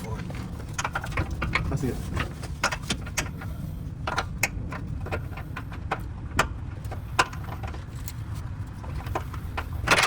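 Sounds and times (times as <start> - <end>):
metallic clicks and knocks: 0.2 - 10.0.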